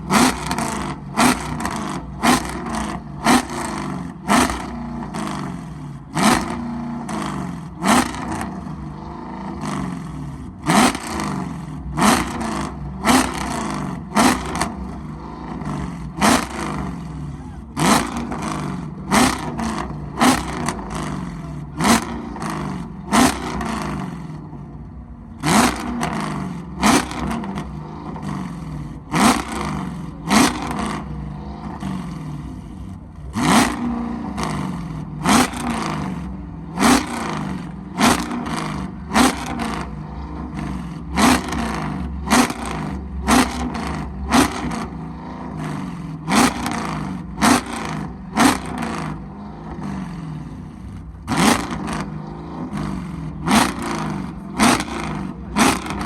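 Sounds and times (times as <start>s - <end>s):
car engine idling: 0.0s - 56.0s
engine throttle blips: 0.0s - 56.0s.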